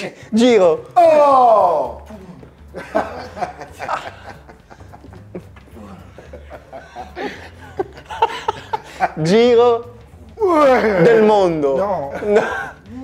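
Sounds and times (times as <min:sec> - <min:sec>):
men chuckling and laughing: 0:02.0 - 0:13.0.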